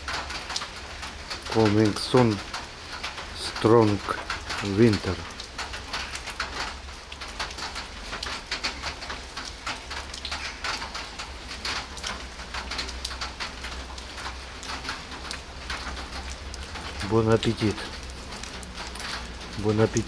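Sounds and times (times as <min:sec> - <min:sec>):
raindrops clicking: 0:00.0 - 0:20.0
steady rain falling: 0:00.0 - 0:20.0.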